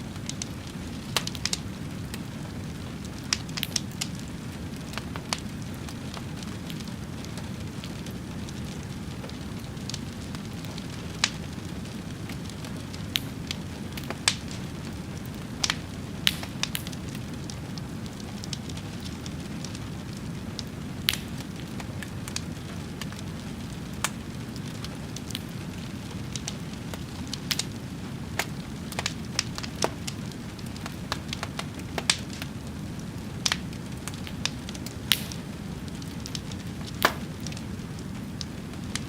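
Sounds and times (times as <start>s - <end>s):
fire crackling: 0.0s - 39.0s.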